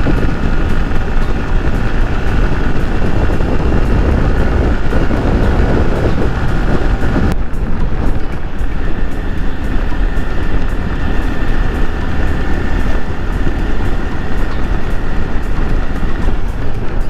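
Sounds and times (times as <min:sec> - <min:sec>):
motorcycle engine running: 0:00.0 - 0:17.0
wind and road rumble: 0:00.0 - 0:17.0.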